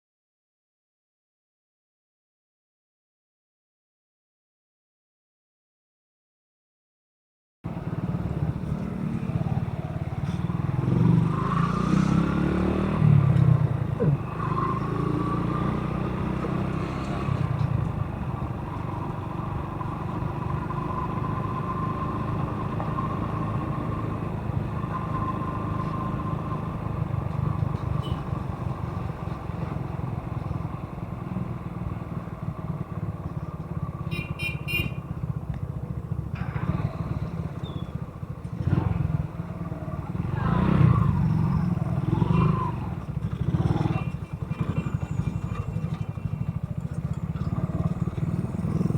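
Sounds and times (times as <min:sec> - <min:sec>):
motorcycle engine rumbling: 0:07.7 - 0:48.9.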